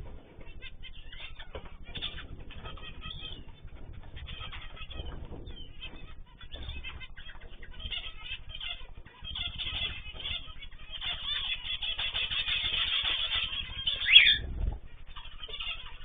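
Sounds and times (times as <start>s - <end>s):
cage birds chirping: 0.0s - 16.0s.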